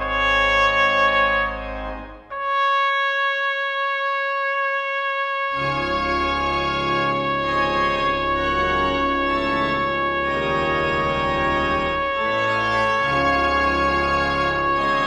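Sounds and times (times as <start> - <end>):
church organ chords: 0.0 - 15.0
trumpet holding high note: 0.0 - 15.0.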